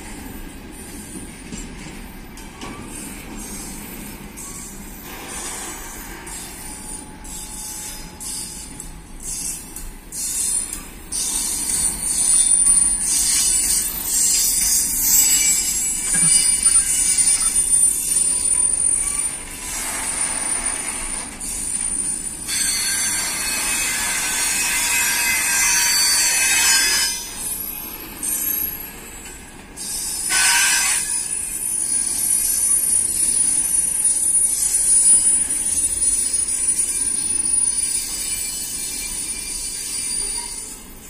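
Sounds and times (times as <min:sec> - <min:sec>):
train wheels rolling on rails: 0:00.0 - 0:41.0
high-pitched wheel squeal: 0:05.8 - 0:28.8, 0:29.8 - 0:40.8.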